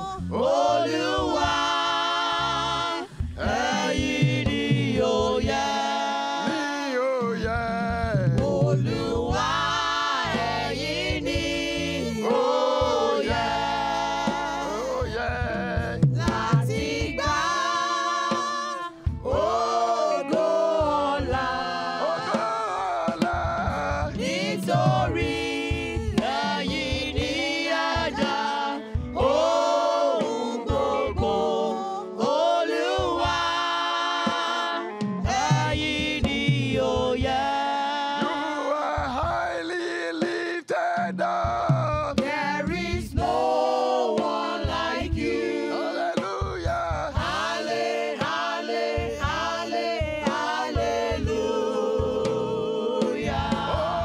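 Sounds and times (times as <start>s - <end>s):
congregation singing gospel: 0.0s - 54.0s.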